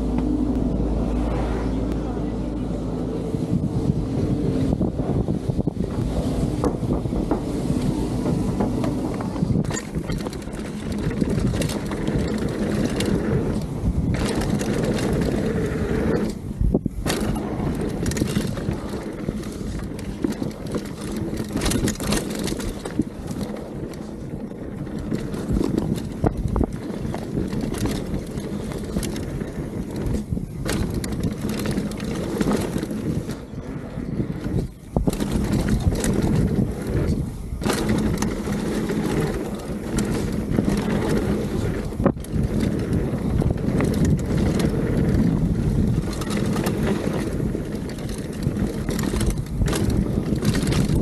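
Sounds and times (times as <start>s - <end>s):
bike knocking and rattling: 3.5s - 51.0s.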